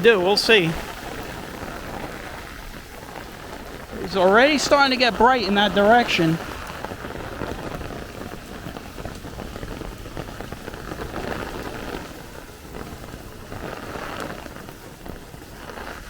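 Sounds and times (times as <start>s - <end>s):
rain falling on street: 0.0s - 16.0s
single raindrops ticking: 0.0s - 16.0s.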